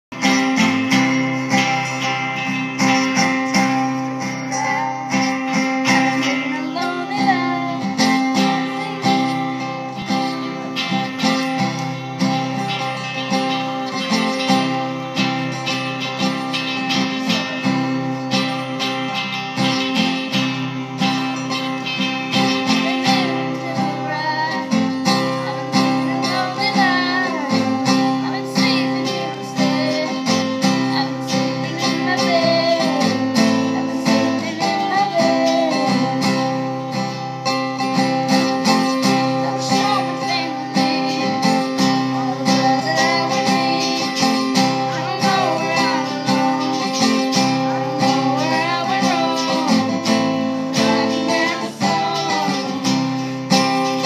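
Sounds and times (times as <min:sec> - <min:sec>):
guitars strumming: 0:00.0 - 0:54.0
girl singing into a microphone: 0:00.2 - 0:15.3, 0:22.3 - 0:37.2, 0:37.9 - 0:54.0.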